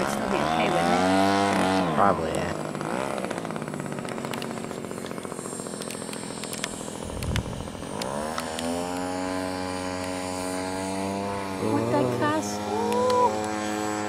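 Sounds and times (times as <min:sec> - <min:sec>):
model airplane engine: 0:00.0 - 0:14.0.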